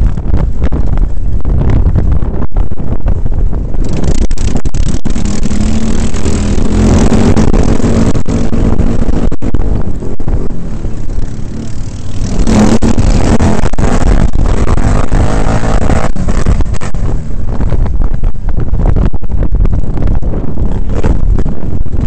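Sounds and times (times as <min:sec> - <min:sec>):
quad bike engine running: 0:00.0 - 0:22.0
wind buffeting microphone: 0:00.0 - 0:22.0.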